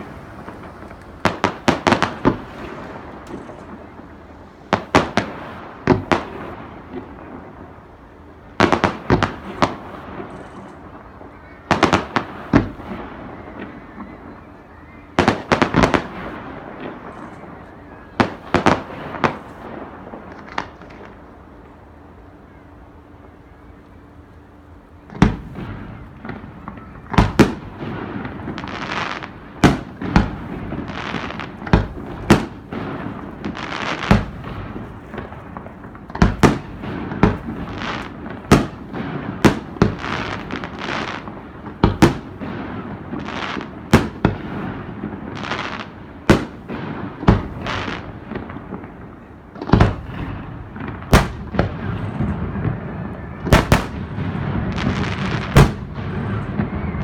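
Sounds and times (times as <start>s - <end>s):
fireworks hiss: 0.0s - 14.4s, 25.2s - 57.0s
fireworks bangs: 0.0s - 57.0s.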